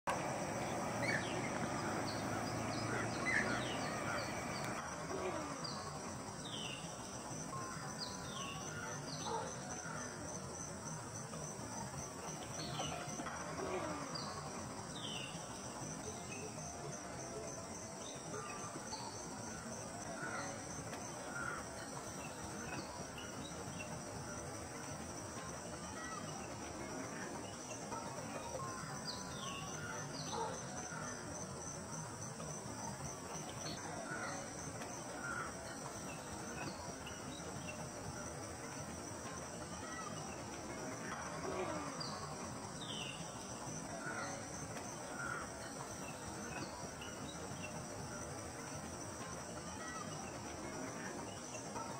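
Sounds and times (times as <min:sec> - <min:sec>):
chorus of insects: 0:00.1 - 0:51.9.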